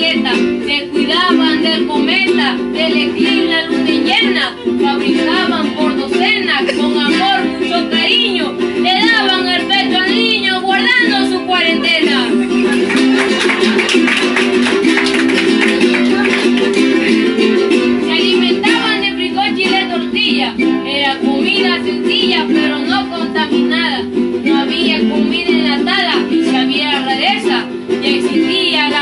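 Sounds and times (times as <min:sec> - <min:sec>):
guitars strummed fast: 0:00.4 - 0:29.0.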